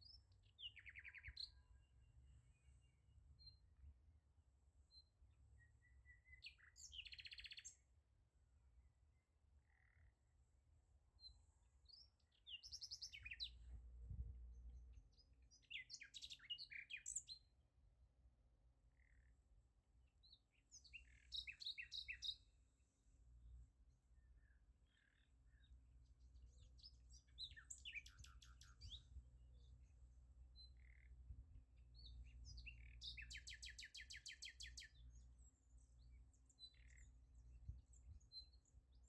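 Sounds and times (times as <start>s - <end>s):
faint bird chirping: 0.0s - 3.7s, 4.4s - 8.0s, 9.0s - 17.6s, 18.6s - 39.0s.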